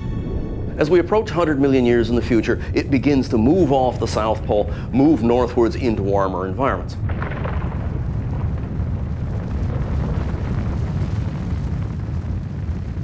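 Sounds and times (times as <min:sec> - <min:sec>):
deep bass rumble: 0:00.0 - 0:13.0.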